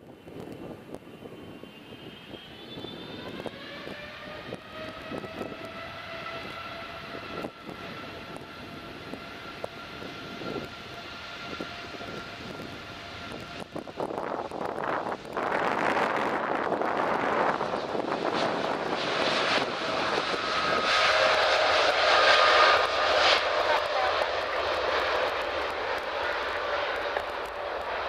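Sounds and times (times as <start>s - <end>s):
wind gusts on microphone: 0.0s - 28.0s
jet engines whining: 0.1s - 28.0s.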